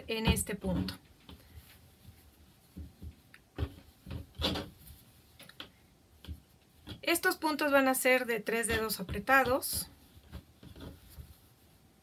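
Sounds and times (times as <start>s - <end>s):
hands rubbing wool: 0.0s - 12.0s.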